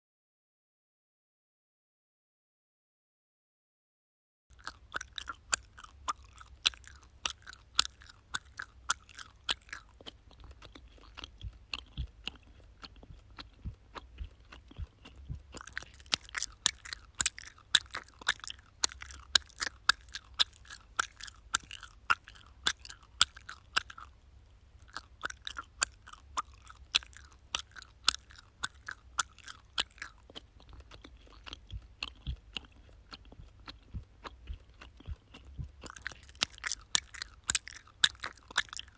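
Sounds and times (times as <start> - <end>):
person chewing gum: 4.5 - 38.9.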